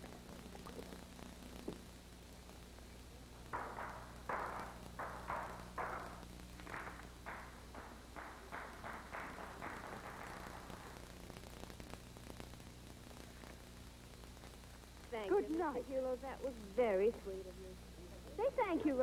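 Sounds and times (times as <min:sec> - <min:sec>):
film soundtrack hum: 0:00.0 - 0:19.0.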